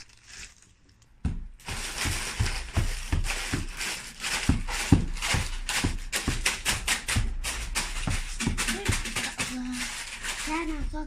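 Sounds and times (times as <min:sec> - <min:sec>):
snack packaging crinkling: 0:00.0 - 0:11.0.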